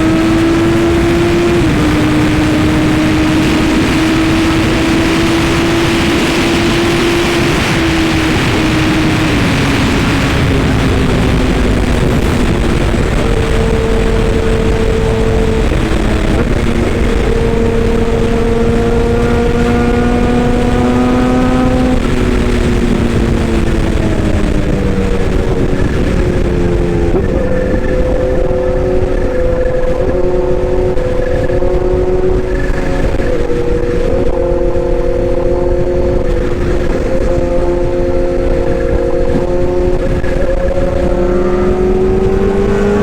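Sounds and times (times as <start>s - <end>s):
engine running with whine: 0.0s - 43.0s.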